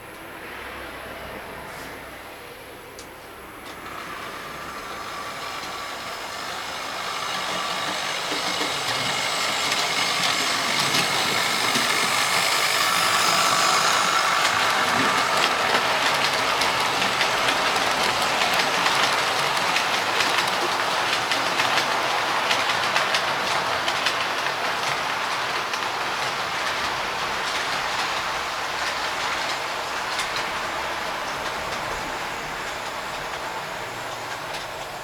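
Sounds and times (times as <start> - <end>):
model train wheels clicking on rails: 3.0 - 35.0.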